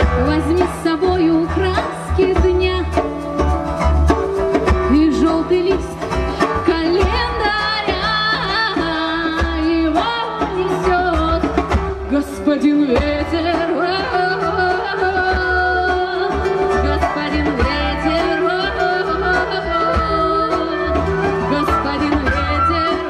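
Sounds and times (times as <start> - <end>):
bass: 0.0 - 23.0
guitar: 0.0 - 23.0.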